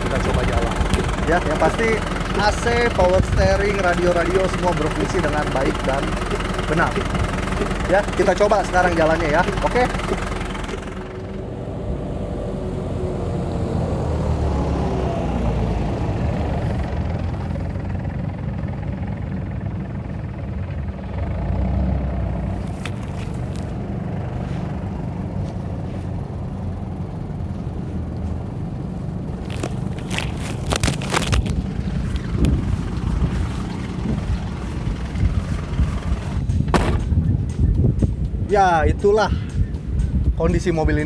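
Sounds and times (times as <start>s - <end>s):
diesel engine driving: 0.0s - 41.0s.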